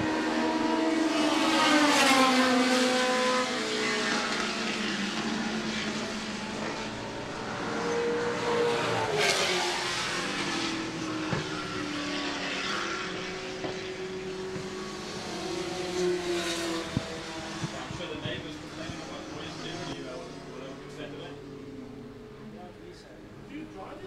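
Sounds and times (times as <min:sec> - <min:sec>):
racing car engines running: 0:00.0 - 0:24.0.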